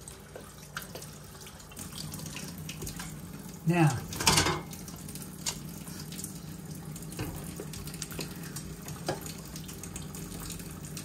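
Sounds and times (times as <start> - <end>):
faucet running into steel sink: 0.0 - 11.0.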